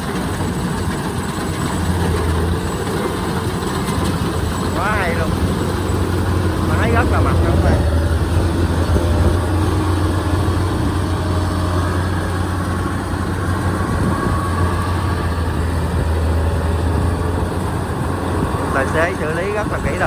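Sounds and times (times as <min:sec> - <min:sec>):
combine harvester engine running: 0:00.0 - 0:20.0.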